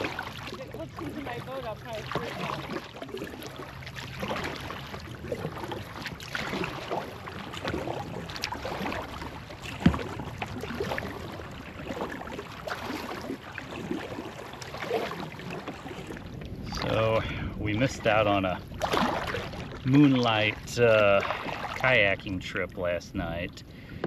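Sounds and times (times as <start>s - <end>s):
paddle splashing water: 0.0s - 24.0s.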